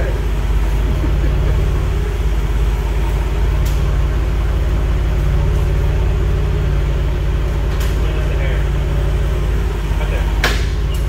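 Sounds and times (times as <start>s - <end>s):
forklift engine droning: 0.0s - 11.0s.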